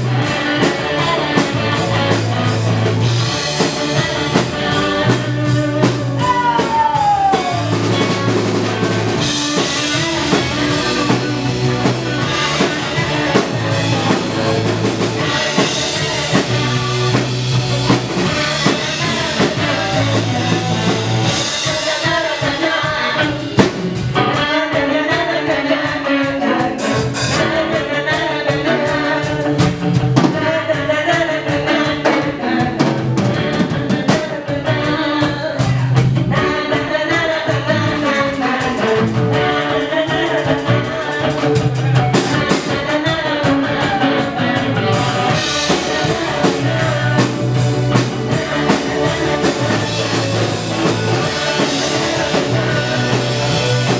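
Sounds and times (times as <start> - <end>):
women singing: 0.0 - 2.6, 3.6 - 8.1, 9.2 - 53.9
live rock band playing: 0.0 - 53.9.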